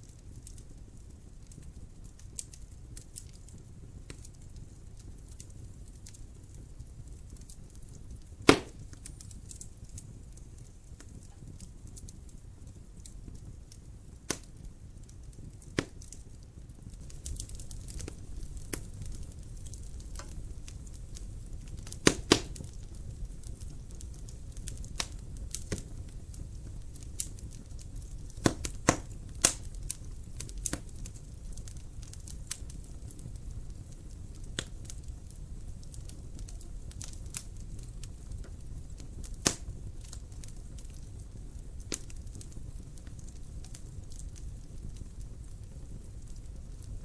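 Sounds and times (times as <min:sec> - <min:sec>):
fire crackling and popping: 0:00.0 - 0:47.0
fire low rumble: 0:00.0 - 0:47.0.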